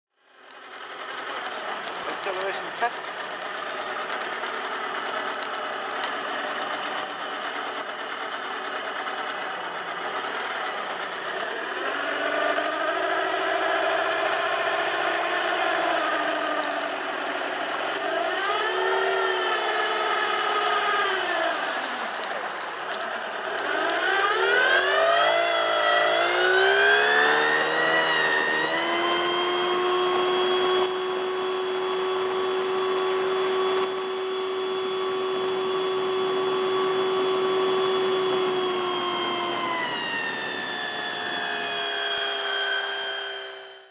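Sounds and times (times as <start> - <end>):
speedboat engine accelerating: 0.2 - 43.9.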